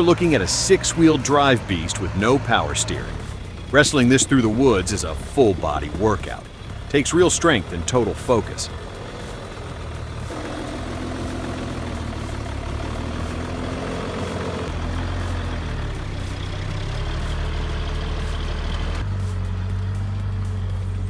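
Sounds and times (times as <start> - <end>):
truck engine running under load: 0.0 - 21.0.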